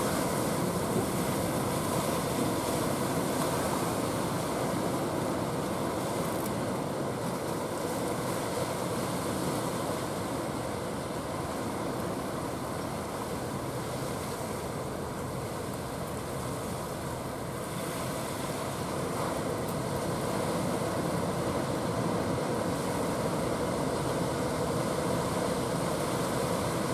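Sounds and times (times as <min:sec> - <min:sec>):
rough sea surf breaking: 0:00.0 - 0:26.9
wind: 0:00.0 - 0:26.9.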